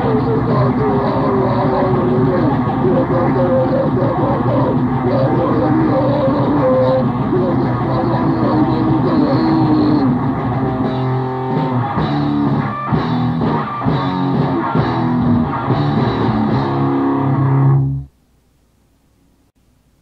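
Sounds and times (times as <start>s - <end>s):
grindcore band playing: 0.0s - 18.0s
faint background noise: 0.0s - 20.0s.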